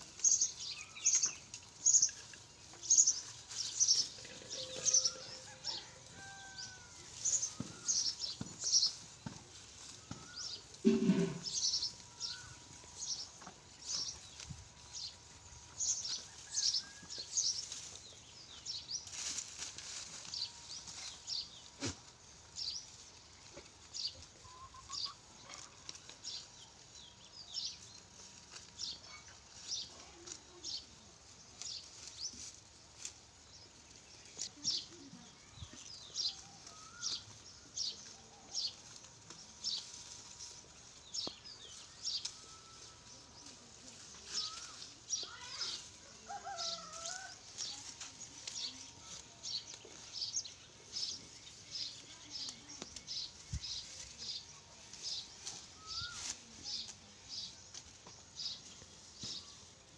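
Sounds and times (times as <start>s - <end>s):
dry stalks rustling and crackling: 0.0s - 59.9s.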